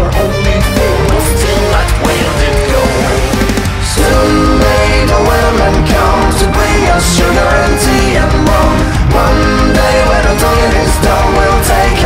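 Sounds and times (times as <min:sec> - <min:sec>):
rock music with vocals: 0:00.0 - 0:12.0.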